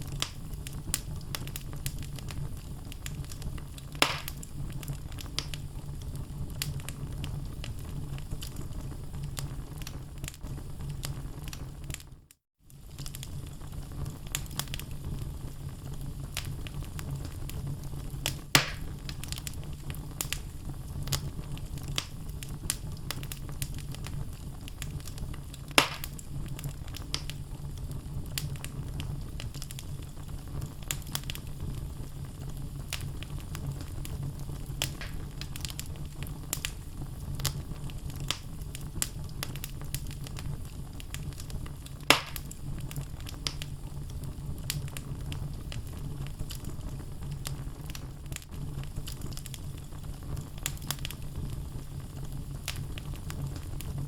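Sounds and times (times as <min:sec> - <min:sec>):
logs crackling in fire: 0:00.0 - 0:54.0
loud fire pops: 0:00.0 - 0:54.0.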